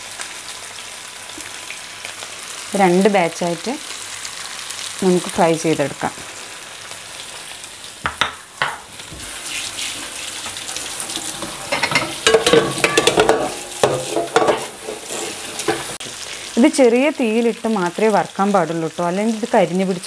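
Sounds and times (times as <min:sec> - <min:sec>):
fish sizzling in oil: 0:00.0 - 0:20.0.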